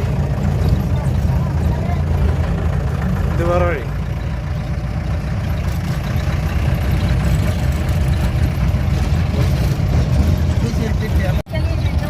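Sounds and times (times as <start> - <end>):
off-road vehicle engine rumble: 0.0 - 12.0.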